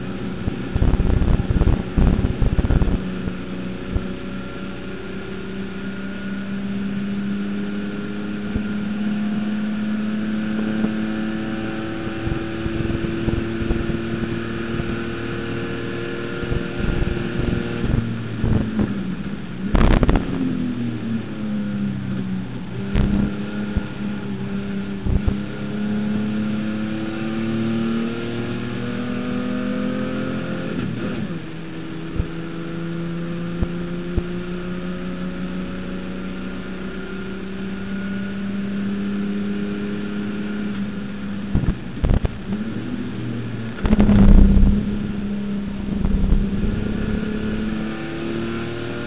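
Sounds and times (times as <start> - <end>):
race car engine accelerating: 0.0 - 49.0.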